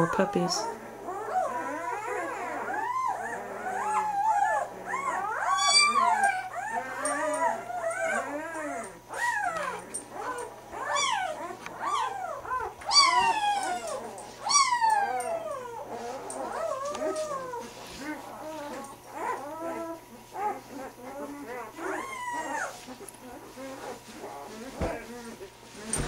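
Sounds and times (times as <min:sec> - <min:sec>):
puppies crying and squealing: 0:00.0 - 0:26.0.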